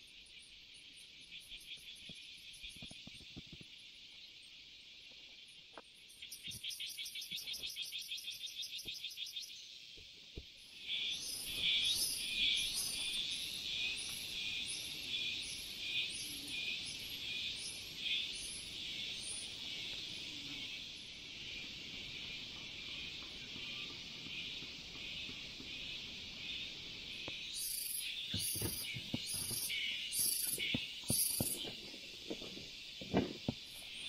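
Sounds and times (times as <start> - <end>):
forest insects chorus: 0.0 - 34.0
sharp insect chirp: 0.0 - 34.0.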